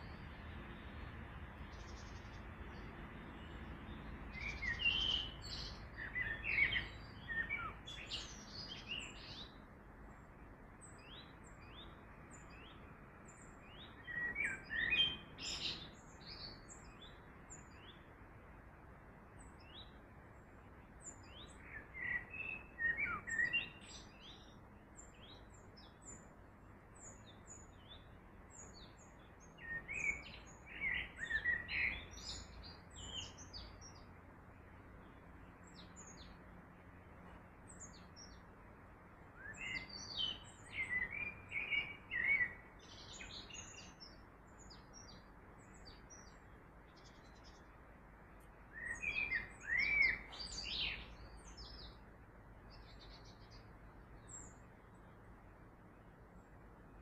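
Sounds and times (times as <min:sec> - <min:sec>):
birds singing: 0:00.0 - 0:57.0.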